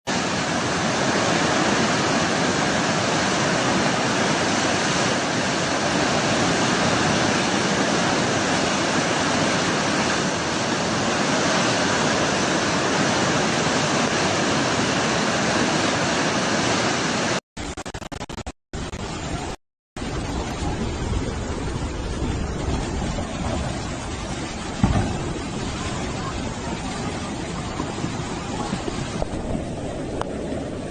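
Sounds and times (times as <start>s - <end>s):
rushing water: 0.1s - 30.9s.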